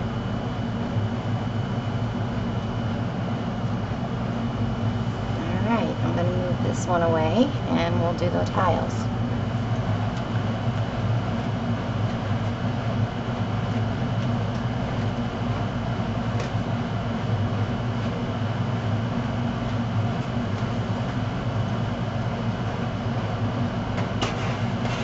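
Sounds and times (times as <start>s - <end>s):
fan motor whirring: 0.0s - 25.0s.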